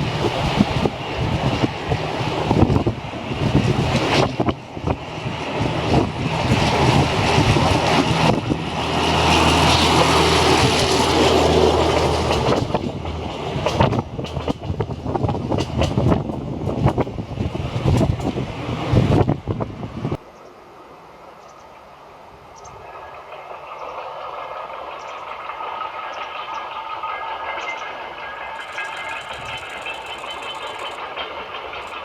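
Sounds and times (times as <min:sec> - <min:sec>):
wheels clattering over rail joints: 0:00.0 - 0:19.3, 0:24.3 - 0:32.0
diesel locomotive engine drone: 0:00.0 - 0:32.0.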